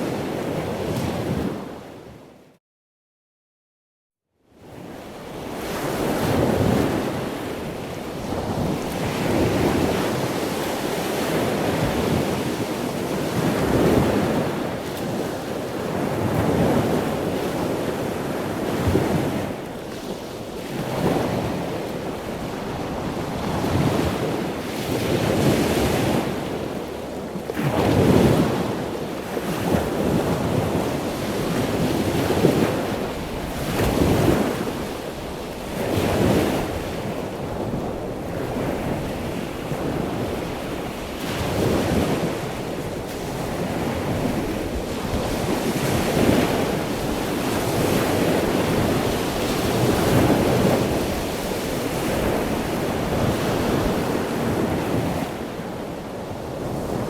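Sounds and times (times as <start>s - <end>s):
ocean waves breaking on shore: 0.0s - 2.4s, 4.6s - 57.0s
wind noise on microphone: 0.0s - 2.5s, 4.6s - 57.0s.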